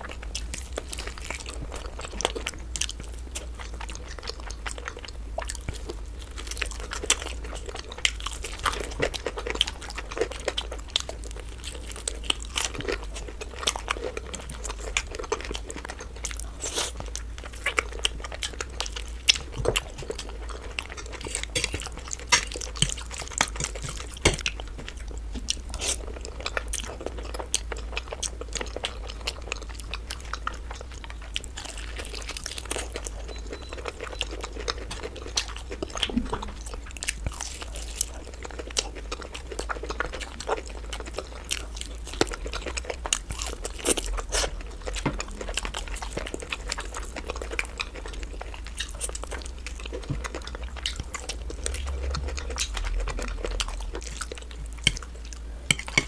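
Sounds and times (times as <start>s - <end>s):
chewing and biting food: 0.0s - 56.0s
low steady hum: 0.0s - 56.0s.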